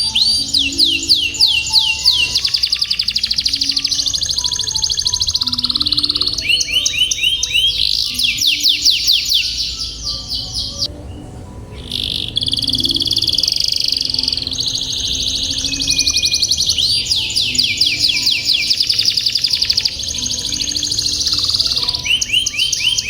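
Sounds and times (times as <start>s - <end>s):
canary singing trills: 0.0s - 23.0s
faint background music: 0.0s - 23.0s.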